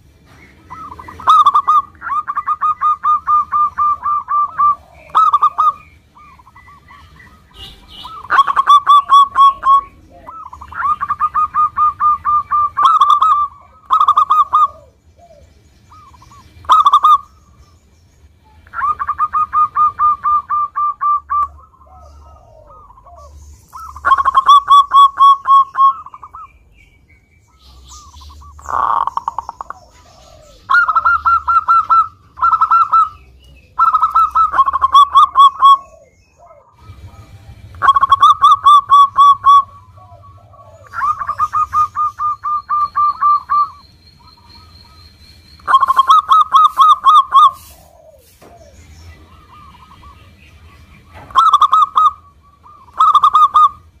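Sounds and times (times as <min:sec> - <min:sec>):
dove cooing: 0:00.3 - 0:17.7, 0:18.4 - 0:26.5, 0:27.6 - 0:45.0, 0:45.6 - 0:54.0.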